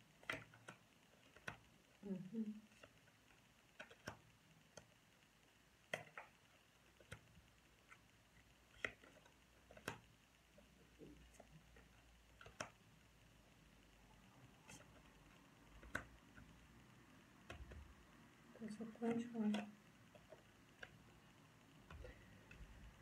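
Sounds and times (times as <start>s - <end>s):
cards clicking and tapping: 0.0s - 1.8s, 2.6s - 5.0s, 5.8s - 13.0s, 14.4s - 23.0s.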